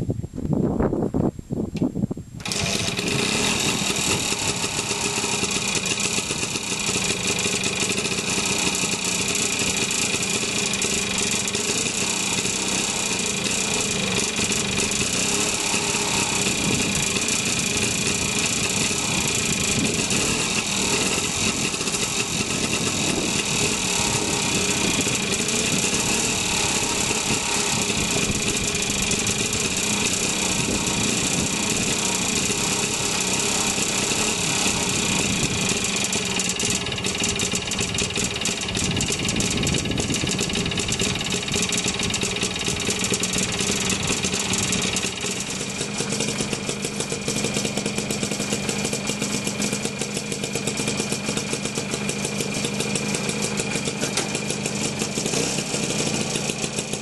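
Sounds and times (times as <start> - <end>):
motorcycle kick-start: 2.4 - 57.0
two-stroke engine idling: 2.4 - 57.0.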